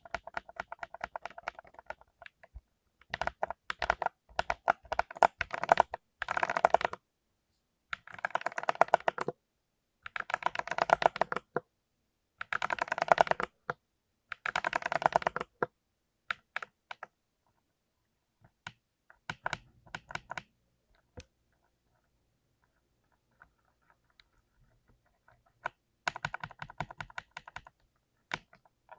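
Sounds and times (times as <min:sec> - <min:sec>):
mechanical keyboard typing: 0:00.0 - 0:07.0, 0:07.9 - 0:09.4, 0:10.0 - 0:11.6, 0:12.4 - 0:15.7, 0:16.3 - 0:17.1, 0:18.5 - 0:21.3, 0:22.0 - 0:28.9.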